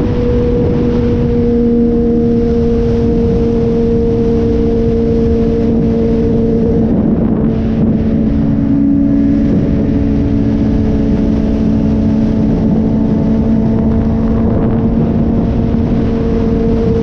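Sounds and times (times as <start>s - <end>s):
motorcycle engine droning: 0.0s - 17.0s
wind and road noise: 0.0s - 17.0s.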